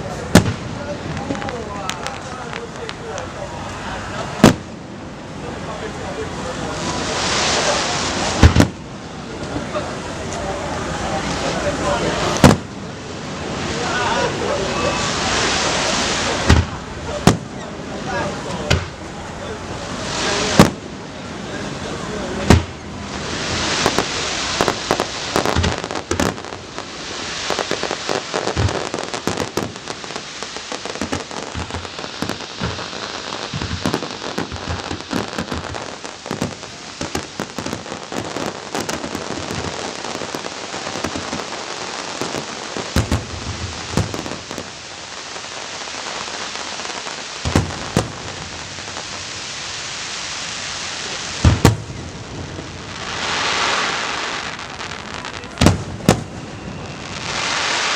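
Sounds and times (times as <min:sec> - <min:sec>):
sharp firework bangs: 0:00.0 - 0:05.0, 0:05.7 - 0:09.0, 0:11.3 - 0:13.0, 0:13.6 - 0:19.1, 0:19.9 - 0:21.0, 0:22.4 - 0:57.9
fireworks crackling: 0:00.0 - 0:57.9.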